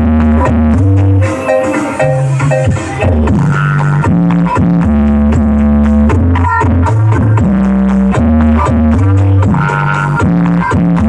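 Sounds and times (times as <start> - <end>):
loud electronic dance music: 0.0 - 11.0.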